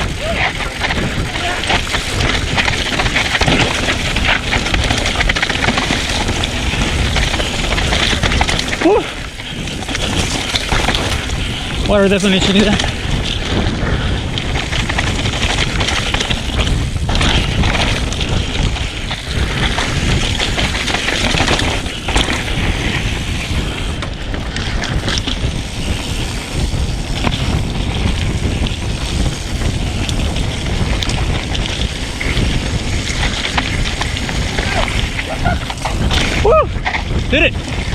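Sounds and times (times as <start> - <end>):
bike rattling and knocking: 0.0 - 37.9
tyres rolling over dirt and rock: 0.0 - 37.9
wind buffeting microphone: 0.0 - 37.9.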